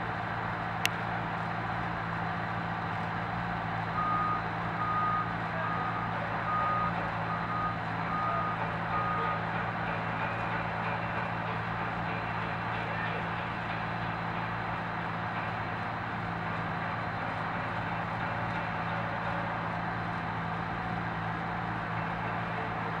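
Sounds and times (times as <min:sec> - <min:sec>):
engine machinery running: 0:00.0 - 0:23.0.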